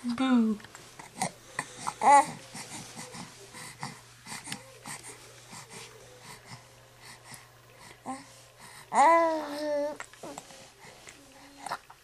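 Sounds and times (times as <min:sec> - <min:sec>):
baby breathing and grunting: 0:01.0 - 0:12.0.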